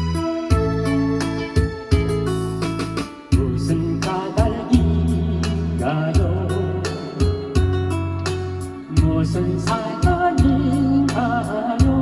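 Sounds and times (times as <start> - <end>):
pop backing track: 0.0 - 12.0.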